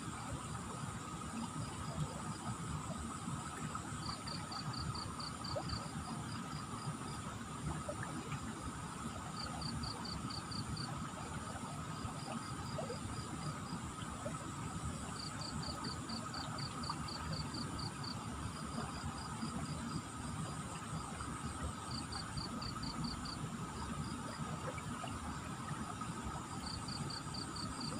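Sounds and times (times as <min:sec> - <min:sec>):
insects chirping: 0:01.1 - 0:07.4, 0:09.2 - 0:27.9.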